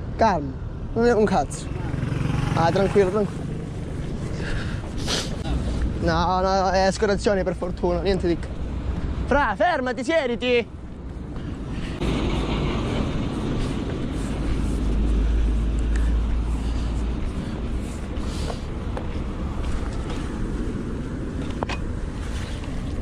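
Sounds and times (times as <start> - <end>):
road vehicle passing: 0.0 - 9.4, 10.0 - 23.0.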